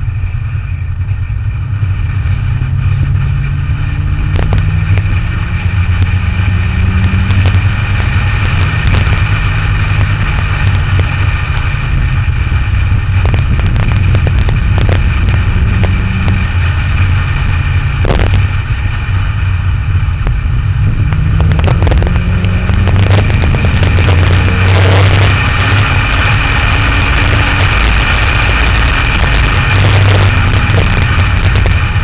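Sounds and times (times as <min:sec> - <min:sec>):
car engine running: 0:00.0 - 0:32.0
wind rush on microphone: 0:00.0 - 0:32.0.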